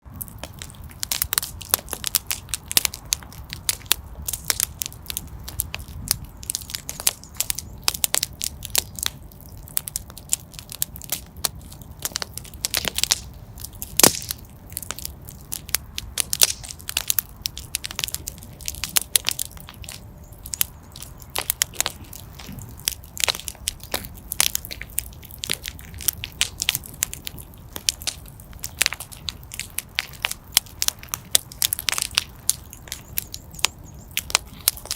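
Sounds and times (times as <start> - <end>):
fire crackling and popping: 0.0 - 34.9
low rumble of flames: 0.0 - 34.9.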